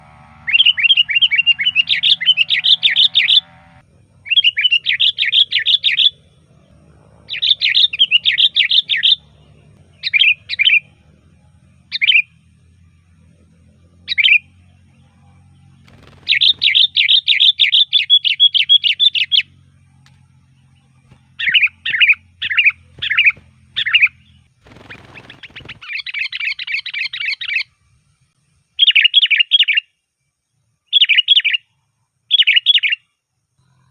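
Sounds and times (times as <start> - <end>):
bird singing trilled phrases: 0.0 - 27.8, 28.7 - 30.0, 30.9 - 31.7, 32.3 - 33.9
faint low hum: 0.0 - 28.8.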